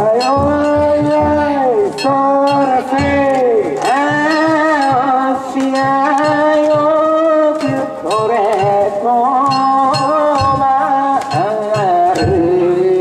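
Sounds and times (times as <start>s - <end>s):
drum beat: 0.0s - 13.0s
person singing long notes: 0.0s - 13.0s.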